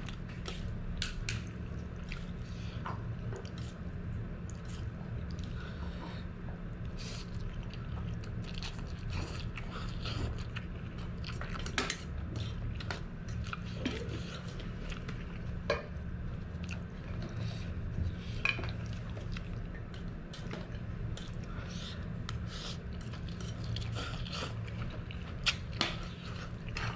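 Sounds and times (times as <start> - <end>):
chewing and slurping noodles: 0.0 - 6.2, 6.8 - 15.6, 16.4 - 26.9.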